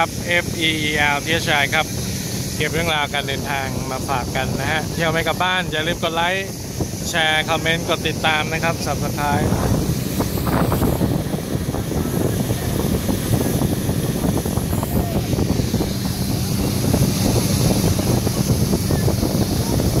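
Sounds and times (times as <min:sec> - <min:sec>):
motorboat engine running: 0:00.0 - 0:20.0
water splashing along hull: 0:00.0 - 0:20.0
wind buffeting microphone: 0:00.0 - 0:20.0.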